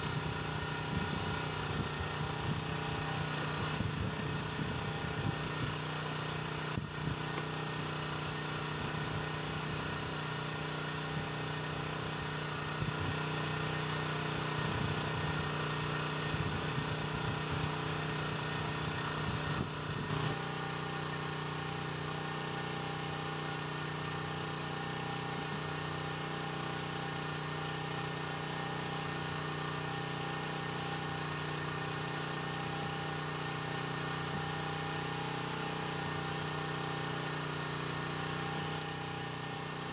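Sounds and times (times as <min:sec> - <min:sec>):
small engine humming: 0:00.0 - 0:39.9.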